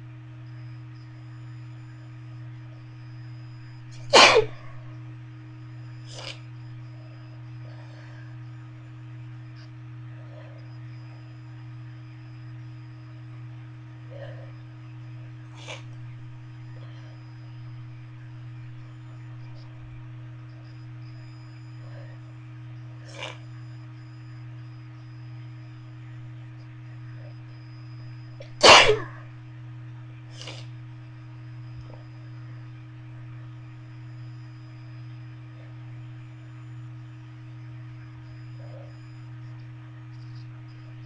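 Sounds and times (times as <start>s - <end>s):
low background hum: 0.0s - 41.0s.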